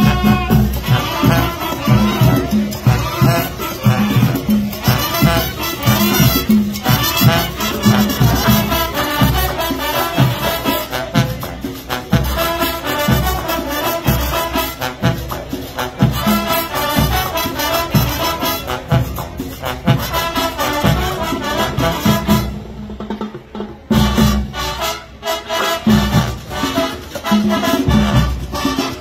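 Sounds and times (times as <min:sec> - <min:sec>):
marching band with brass and drums: 0:00.0 - 0:29.0.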